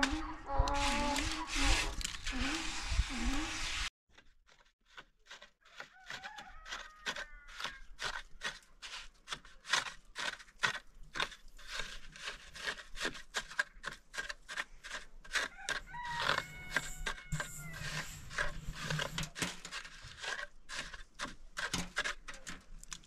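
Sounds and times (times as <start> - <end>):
trowel scraping and tapping mortar: 4.1 - 23.0.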